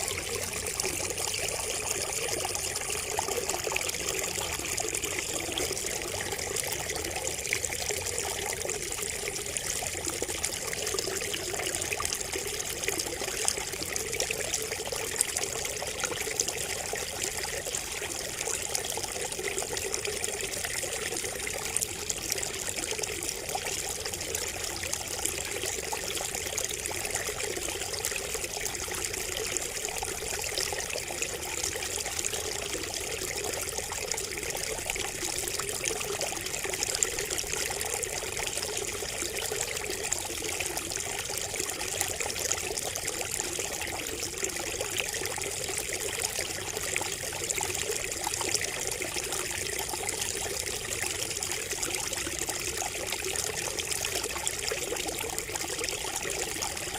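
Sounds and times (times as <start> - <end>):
water trickling from a spout: 0.0 - 56.9.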